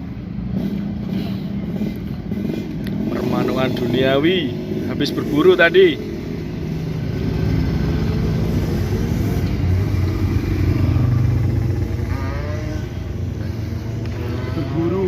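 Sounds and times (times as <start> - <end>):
motorcycle engine passing by: 0.5 - 15.0.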